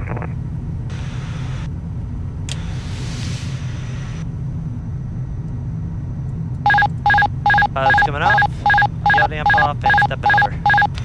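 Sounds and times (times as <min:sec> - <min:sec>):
jet engines and airflow rumble: 0:00.0 - 0:11.0.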